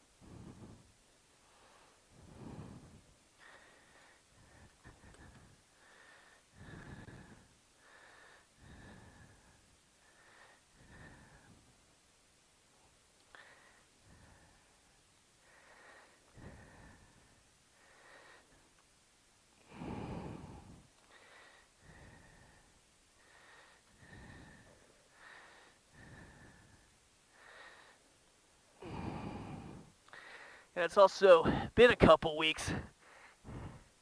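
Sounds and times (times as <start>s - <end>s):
man breathing: 0.0s - 31.9s, 32.6s - 34.0s.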